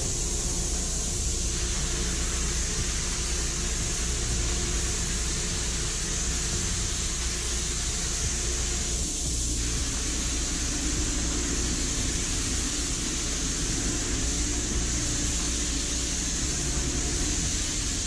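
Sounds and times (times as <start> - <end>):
low steady hum: 0.0 - 18.0
paint spray gun hissing: 0.0 - 18.0.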